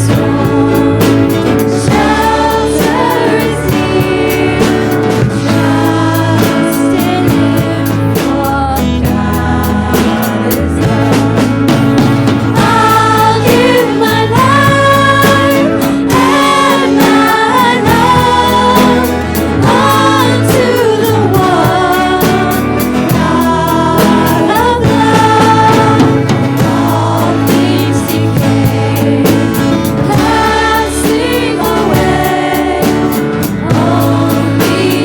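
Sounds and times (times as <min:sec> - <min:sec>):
live band with singing: 0:00.0 - 0:35.0.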